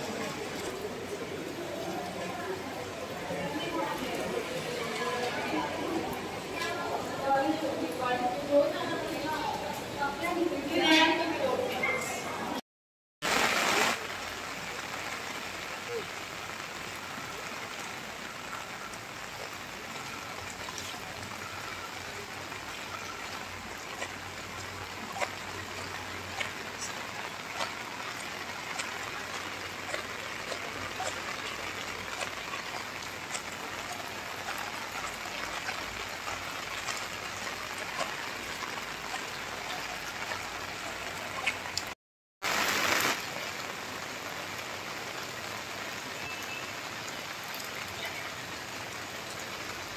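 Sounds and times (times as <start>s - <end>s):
raindrops ticking on surface: 0.0s - 12.2s, 13.2s - 49.9s
steady rain falling: 0.0s - 12.6s, 13.2s - 49.9s.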